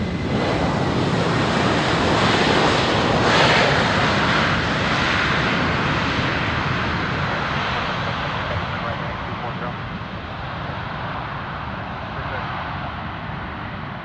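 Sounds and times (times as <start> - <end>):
jet airliner passing: 0.0 - 14.0.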